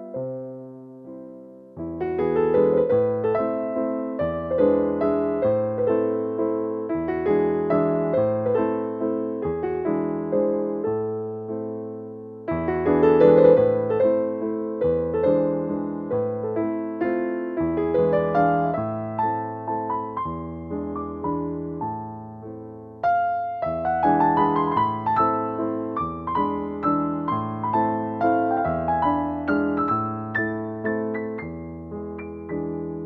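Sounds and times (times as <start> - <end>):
piano music: 0.0 - 33.0.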